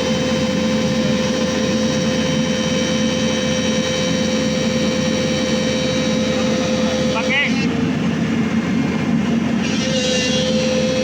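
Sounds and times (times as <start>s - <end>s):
excavator engine drone: 0.0s - 11.0s
hydraulic whine: 0.0s - 11.0s.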